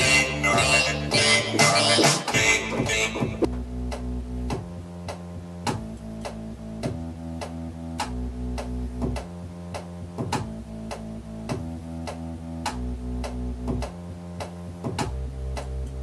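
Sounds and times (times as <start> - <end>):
held synth bass notes: 0.0 - 16.0.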